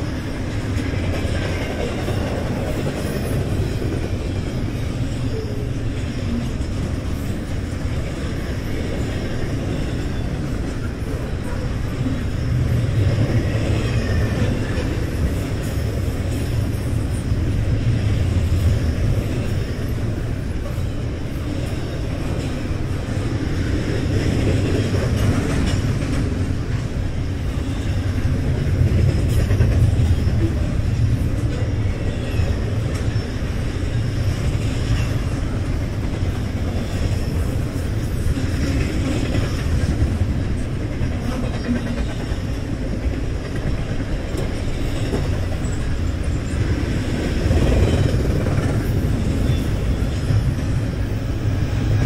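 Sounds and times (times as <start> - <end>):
steel wheels rumbling on rail: 0.0 - 52.0.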